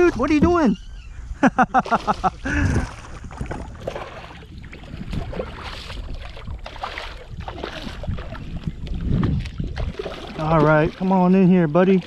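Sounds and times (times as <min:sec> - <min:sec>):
water splashing around a kayak: 0:00.0 - 0:00.8, 0:01.6 - 0:12.0.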